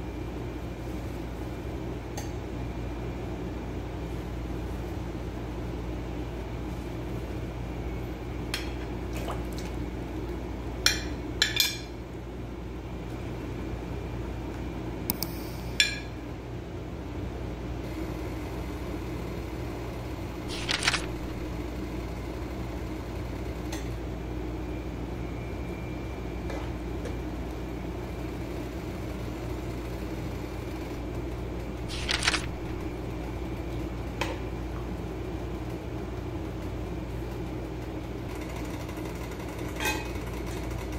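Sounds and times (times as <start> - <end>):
steady low hum: 0.0 - 37.3.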